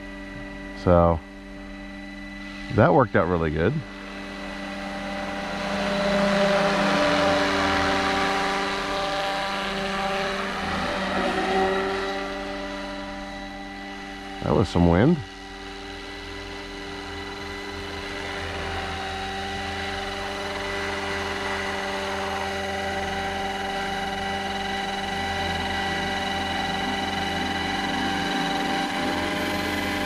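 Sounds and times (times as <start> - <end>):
model helicopter rotor whine: 0.0 - 30.0.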